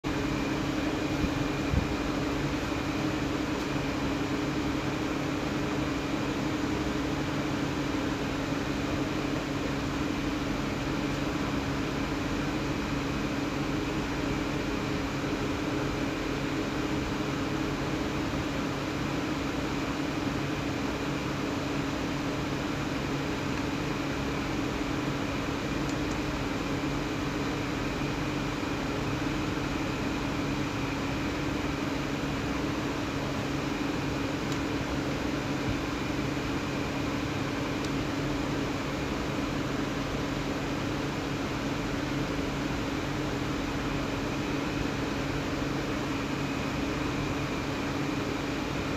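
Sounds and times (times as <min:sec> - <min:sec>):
mechanical hum with hiss: 0:00.0 - 0:48.9.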